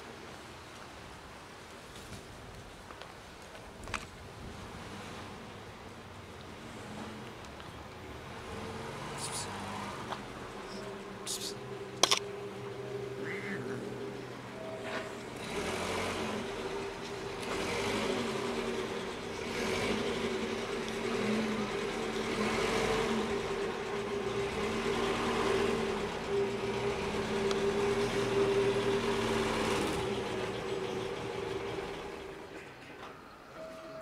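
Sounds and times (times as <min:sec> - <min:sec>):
vehicle engine idling: 0:05.4 - 0:33.2.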